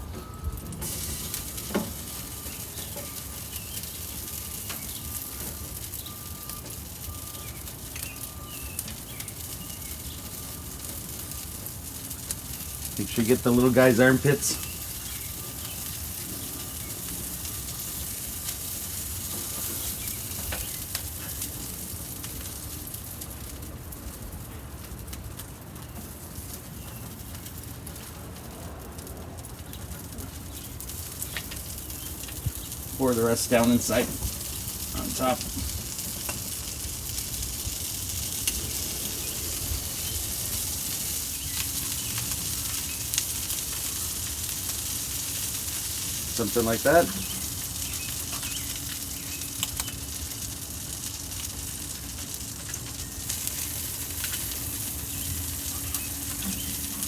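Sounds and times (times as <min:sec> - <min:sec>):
fat sizzling on a grill: 0:00.0 - 0:57.0
sharp crackles: 0:00.0 - 0:57.0.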